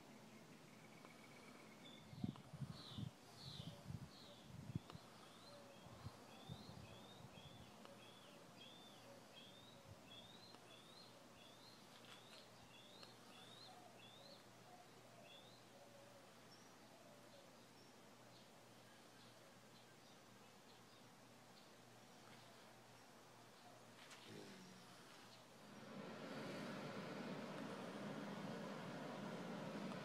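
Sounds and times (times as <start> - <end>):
small bird chirping: 0.3 - 26.0.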